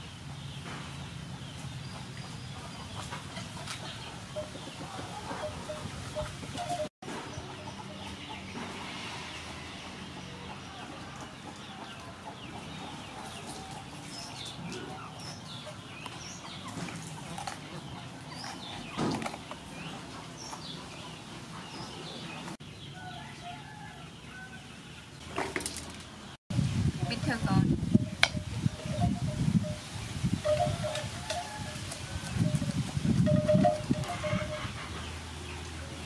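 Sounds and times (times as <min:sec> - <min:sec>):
birds chirping: 0:00.0 - 0:25.4, 0:26.0 - 0:36.0.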